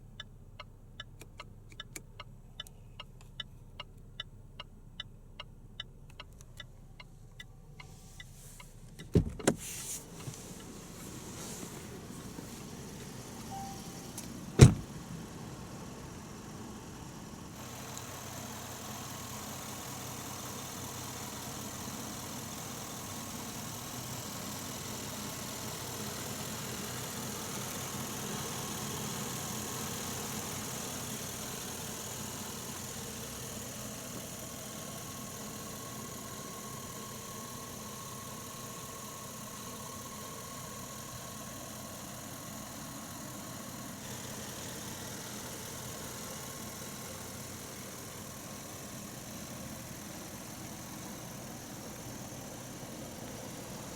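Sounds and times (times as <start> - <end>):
car engine idling: 0.0 - 53.9
constant hiss: 6.3 - 53.9.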